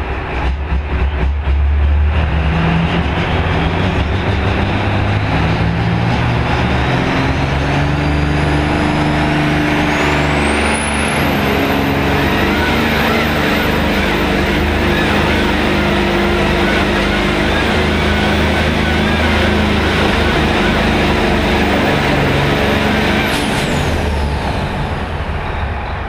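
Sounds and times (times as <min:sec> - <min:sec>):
tractor engine running loud: 0:00.0 - 0:26.0.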